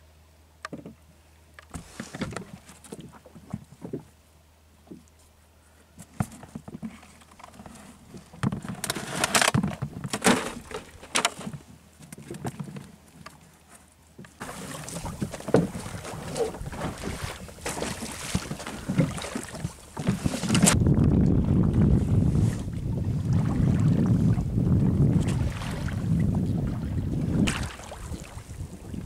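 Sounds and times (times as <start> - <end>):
wind and water: 0.0 - 29.0
knocks and scrapes in a boat: 0.6 - 1.0, 1.6 - 4.2, 4.8 - 29.0.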